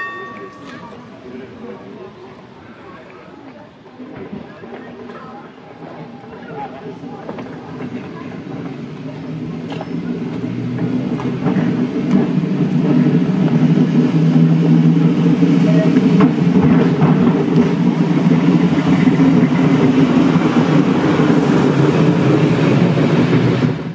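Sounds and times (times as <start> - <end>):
electric tram running on rails: 0.0 - 23.9.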